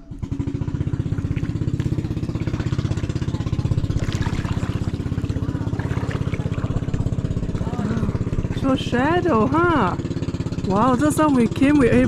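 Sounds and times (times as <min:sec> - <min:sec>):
small boat engine chugging: 0:00.0 - 0:12.0.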